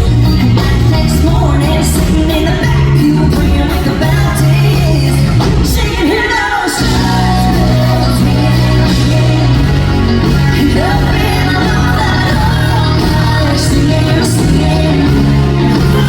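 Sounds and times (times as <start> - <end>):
country band music: 0.0 - 16.0
woman singing: 0.0 - 16.0.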